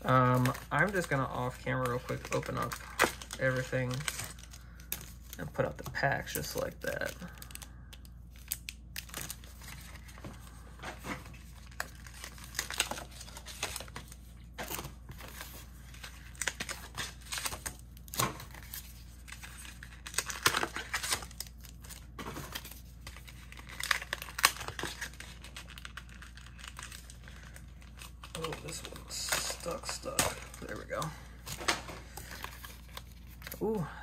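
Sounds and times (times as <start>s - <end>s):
packaging tearing: 0.0s - 10.2s, 11.2s - 33.8s
foil wrappers crinkling: 0.0s - 34.0s.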